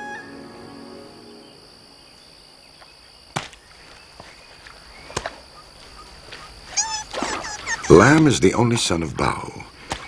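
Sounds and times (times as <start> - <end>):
insect drone: 0.0 - 10.0.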